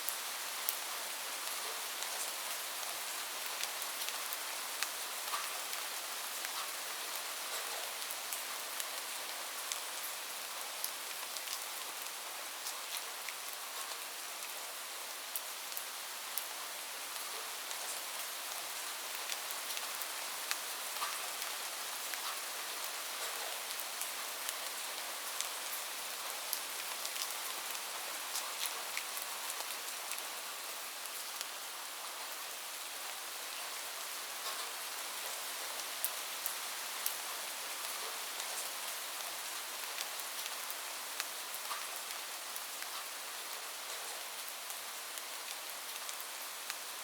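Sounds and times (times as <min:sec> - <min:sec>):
steady rain hiss: 0:00.0 - 0:47.0
raindrops ticking on a surface: 0:00.1 - 0:14.5, 0:15.2 - 0:30.4, 0:31.0 - 0:47.0.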